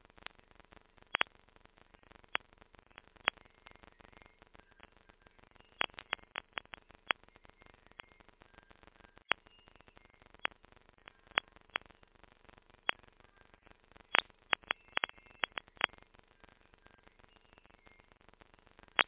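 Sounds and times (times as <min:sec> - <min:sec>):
faint crackle: 0:00.0 - 0:19.0.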